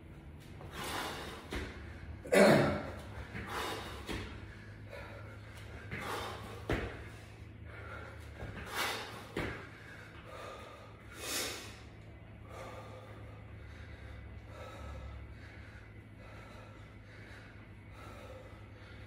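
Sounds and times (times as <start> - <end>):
man breathing hard: 0.2 - 19.0.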